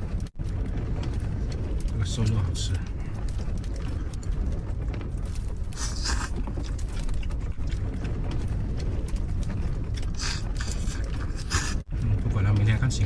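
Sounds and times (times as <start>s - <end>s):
wind buffeting a van: 0.0s - 13.0s.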